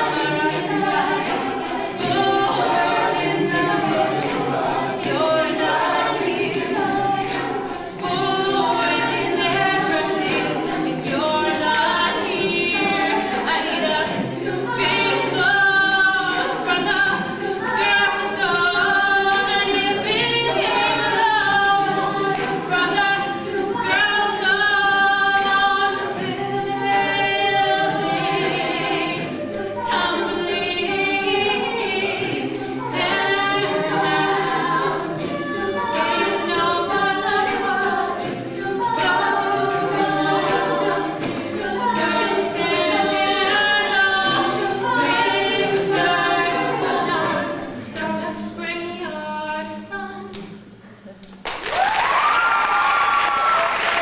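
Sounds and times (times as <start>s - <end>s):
a cappella group singing in harmony: 0.0s - 51.3s.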